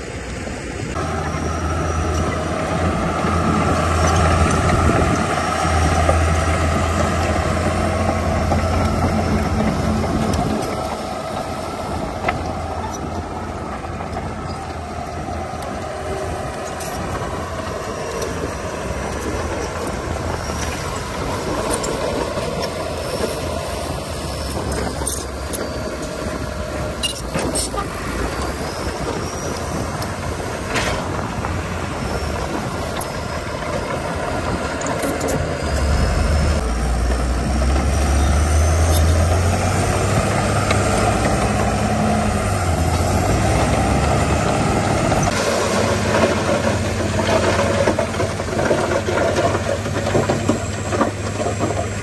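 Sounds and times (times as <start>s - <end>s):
diesel machinery running: 0.0s - 52.0s.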